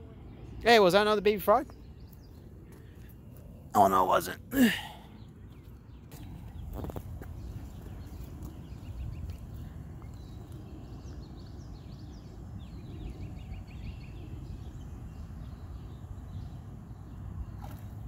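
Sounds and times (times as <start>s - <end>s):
steady low rumble: 0.0s - 18.0s
birds singing in rapid trills: 0.2s - 18.0s.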